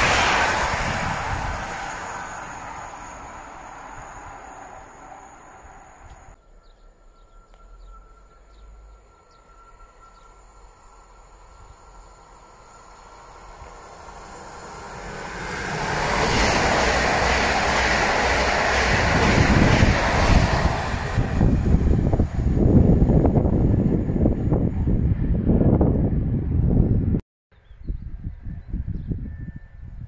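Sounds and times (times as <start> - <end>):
rumble of carriages passing: 0.0 - 26.4
electric train passing at speed: 0.0 - 27.2.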